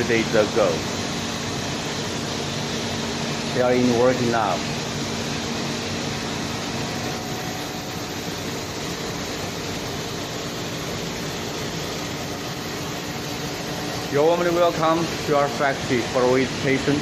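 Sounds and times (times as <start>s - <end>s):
machine shop hum and hiss: 0.0s - 17.0s.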